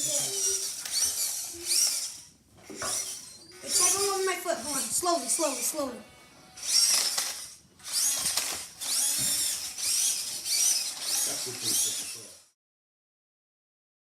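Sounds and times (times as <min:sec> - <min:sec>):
toy electric motor whining: 0:00.0 - 0:12.6.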